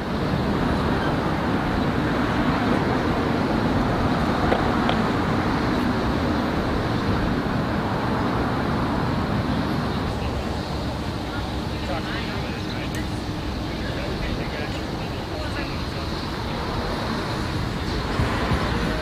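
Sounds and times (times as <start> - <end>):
vehicle engine and traffic: 0.0 - 19.0.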